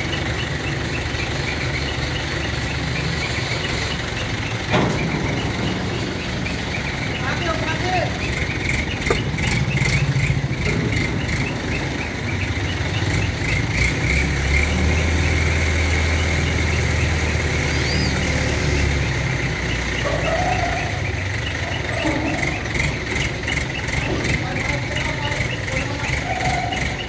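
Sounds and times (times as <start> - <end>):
crane engine droning: 0.0 - 27.0.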